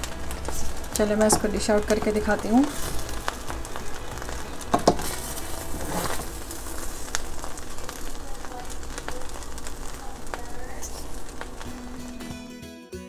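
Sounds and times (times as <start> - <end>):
spatula stirring rice: 0.1 - 11.9.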